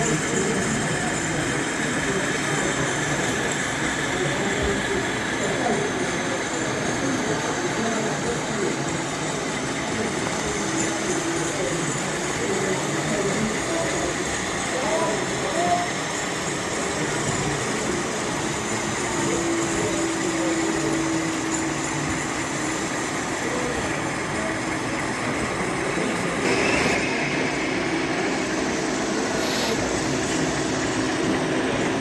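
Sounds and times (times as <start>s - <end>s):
hall background noise: 0.0s - 32.0s
model train running: 0.0s - 32.0s.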